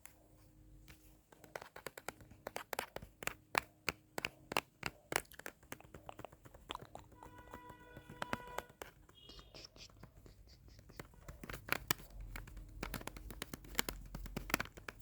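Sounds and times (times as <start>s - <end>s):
close-up finger taps: 0.8s - 15.0s.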